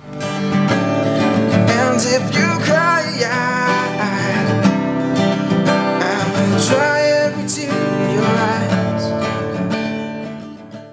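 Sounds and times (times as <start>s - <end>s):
acoustic guitar strumming chords: 0.0s - 10.9s.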